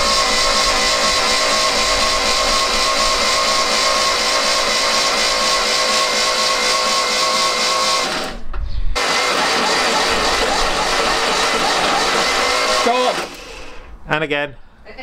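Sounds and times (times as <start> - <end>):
engine cranking on starter: 0.0 - 8.4, 9.0 - 13.9.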